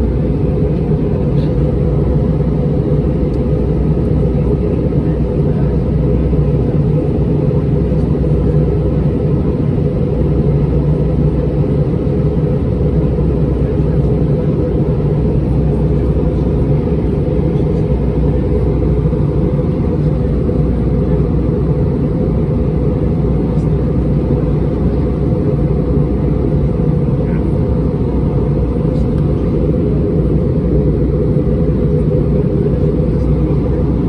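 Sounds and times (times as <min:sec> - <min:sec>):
airplane cabin rumble: 0:00.0 - 0:34.0.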